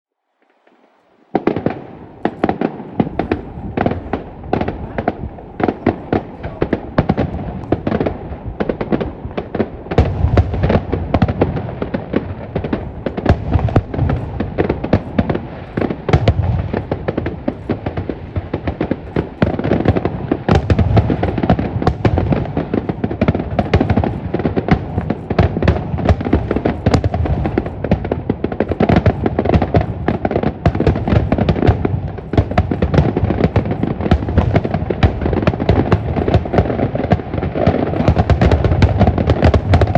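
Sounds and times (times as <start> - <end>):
fireworks bangs and crackling: 0.4 - 39.9
continuous rumble: 2.0 - 36.9.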